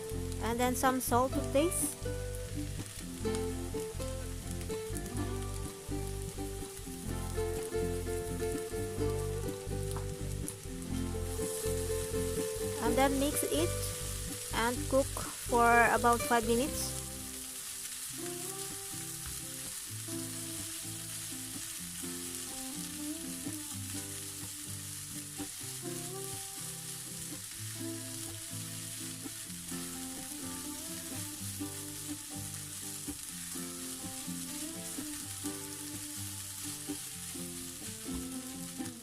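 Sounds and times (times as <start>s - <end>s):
background music: 0.0s - 39.0s
rice sizzling in a pan: 0.0s - 39.0s.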